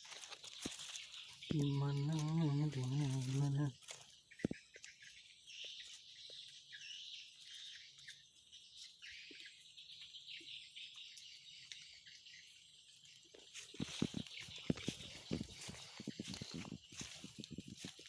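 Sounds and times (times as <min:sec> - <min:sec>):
insects and birds chirping: 0:00.0 - 0:18.0.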